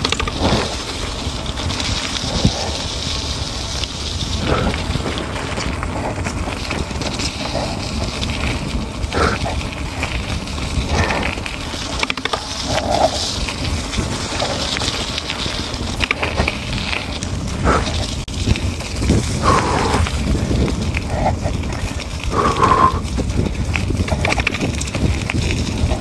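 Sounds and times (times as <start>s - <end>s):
tyres crunching over gravel: 0.0s - 26.0s
wind buffeting microphone: 0.0s - 26.0s.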